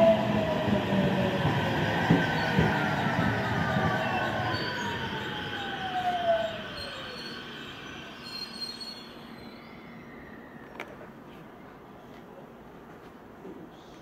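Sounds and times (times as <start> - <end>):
train whining tone: 0.0 - 11.4
electric train passing: 0.0 - 12.0.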